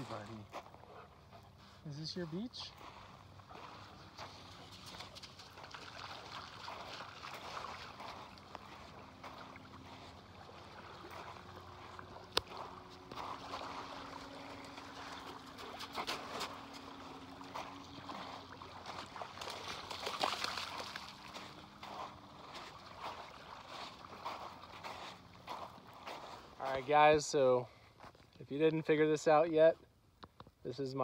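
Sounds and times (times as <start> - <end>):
water splashing and lapping: 0.0 - 28.4.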